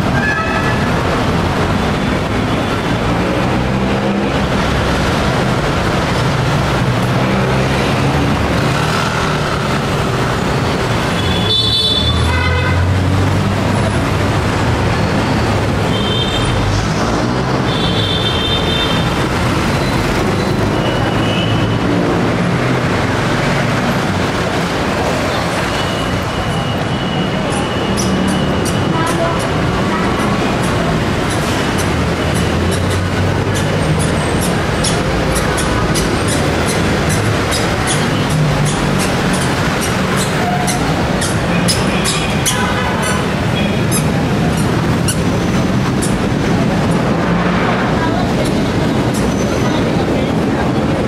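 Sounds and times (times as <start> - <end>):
cars passing: 0.0 - 51.0
motorcycles passing: 0.0 - 51.0
steady engine hum: 0.0 - 51.0.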